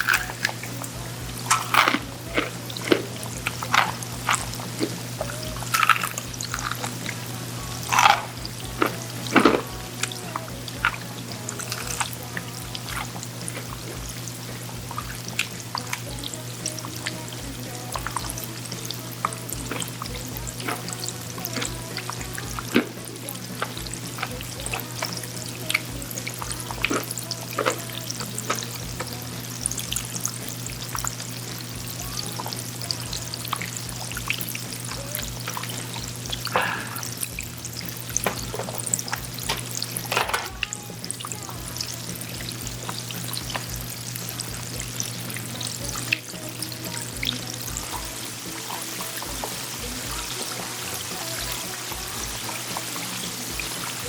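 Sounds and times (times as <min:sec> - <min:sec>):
background music: 0:00.0 - 0:54.0
chicken deep-frying in oil: 0:00.0 - 0:54.0.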